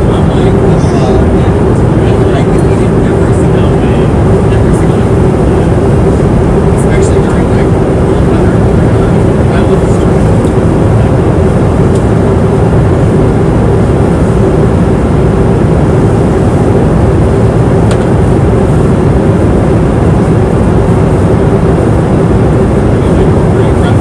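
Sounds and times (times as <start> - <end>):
airplane engines and rushing air: 0.0 - 24.0
constant hum: 0.0 - 24.0.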